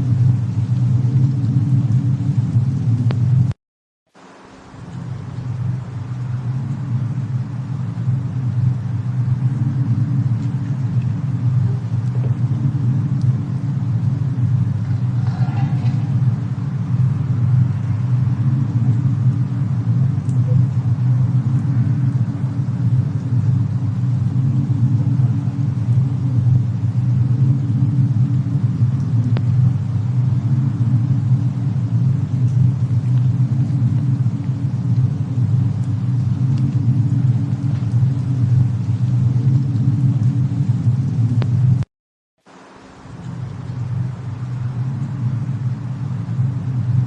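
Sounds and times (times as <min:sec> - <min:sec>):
storm wind: 0:00.0 - 0:03.6, 0:04.2 - 0:41.9, 0:42.7 - 0:47.0
faint fire crackles: 0:00.0 - 0:47.0
fire roaring: 0:00.0 - 0:47.0.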